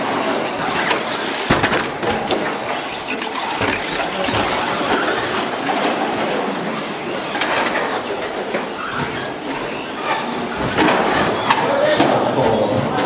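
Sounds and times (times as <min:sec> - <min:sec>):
toy truck motors revving: 0:00.0 - 0:12.1.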